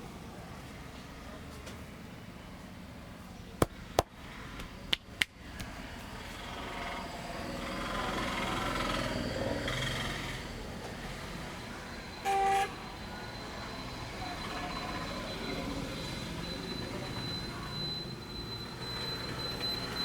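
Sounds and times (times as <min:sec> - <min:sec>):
passing street traffic: 0:00.0 - 0:20.0.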